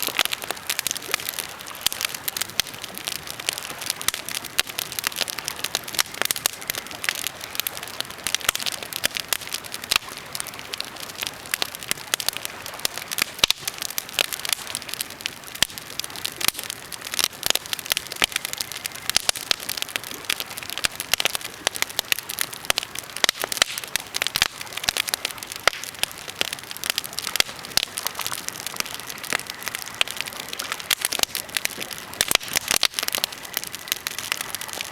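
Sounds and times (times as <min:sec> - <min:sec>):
campfire crackling: 0:00.0 - 0:34.9.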